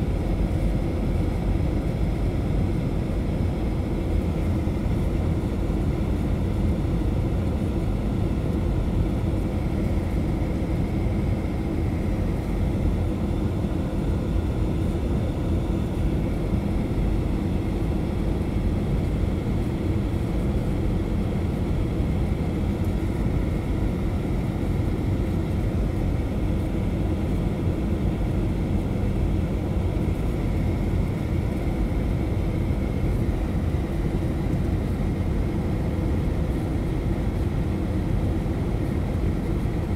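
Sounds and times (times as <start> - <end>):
jet engines rumbling: 0.0 - 39.8
faint steady whine: 0.0 - 39.9.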